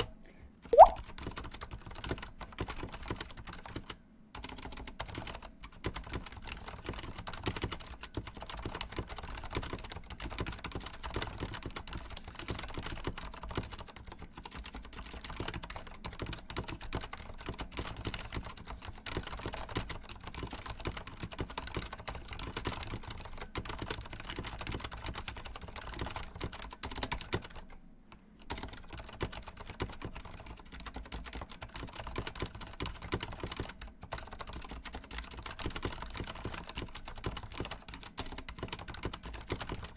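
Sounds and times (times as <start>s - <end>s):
fast typing on mechanical keyboard: 0.7s - 27.8s, 28.4s - 39.9s.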